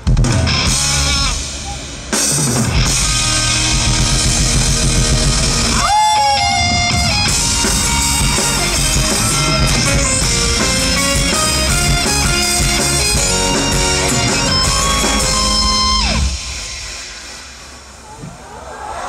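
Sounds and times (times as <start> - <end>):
bass guitar: 0.0 - 16.5
electric guitar: 0.0 - 17.0
drums: 0.0 - 19.0.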